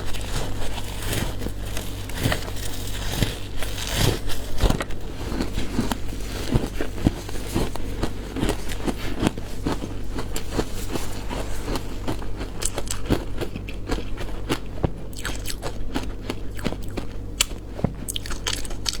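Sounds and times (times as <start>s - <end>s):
ice crunching being chewed: 0.0s - 19.0s.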